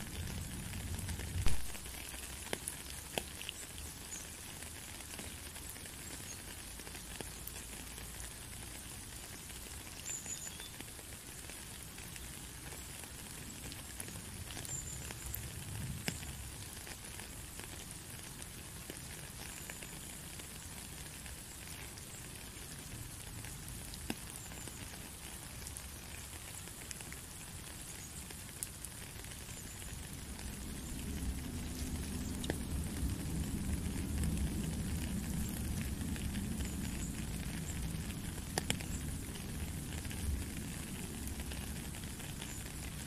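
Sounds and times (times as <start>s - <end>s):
rain on puddle and gravel: 0.0s - 43.0s
water drips: 0.0s - 43.0s.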